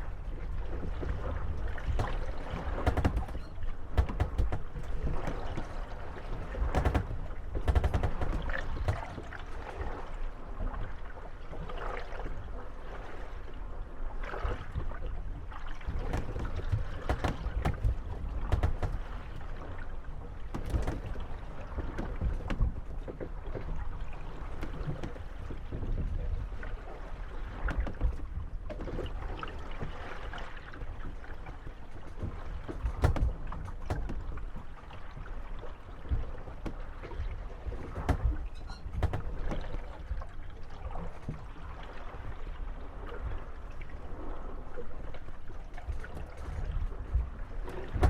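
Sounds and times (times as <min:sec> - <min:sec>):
boat hulls creaking and knocking: 0:00.0 - 0:13.6, 0:14.2 - 0:48.0
water sloshing: 0:00.0 - 0:48.0.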